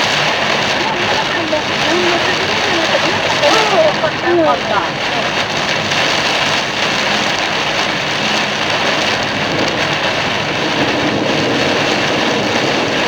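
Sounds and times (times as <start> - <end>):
heavy rain on a car: 0.0 - 13.0
tyres on a wet road: 0.0 - 13.0.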